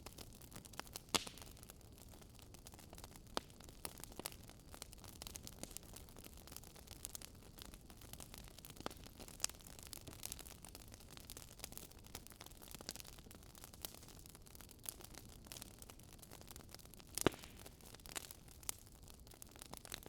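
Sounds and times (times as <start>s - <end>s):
wood fire crackling faintly: 0.0s - 20.0s.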